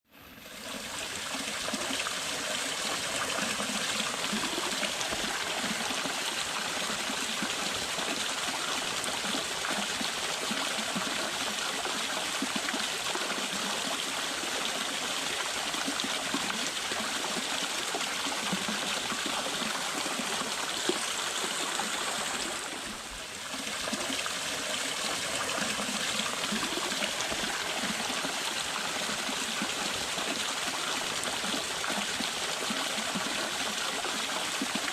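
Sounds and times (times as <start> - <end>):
small waterfall splashing over rocks: 0.4 - 34.9.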